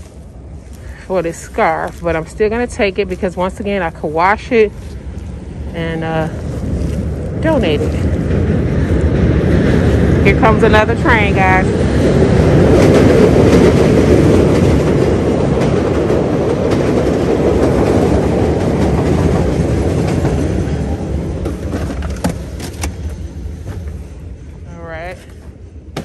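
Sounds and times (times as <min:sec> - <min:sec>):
train passing rumble: 0:00.0 - 0:26.0.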